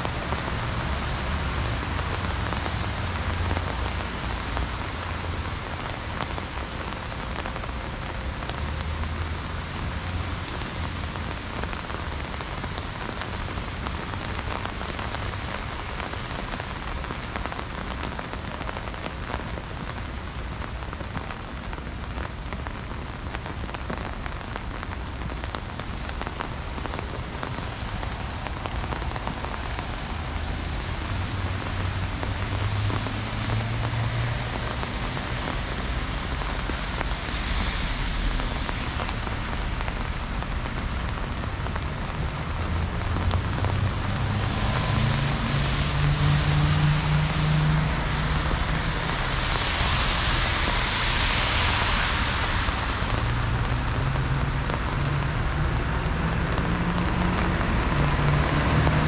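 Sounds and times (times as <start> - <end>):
heavy rain falling: 0.0 - 59.0
raindrop ticks: 10.0 - 59.0.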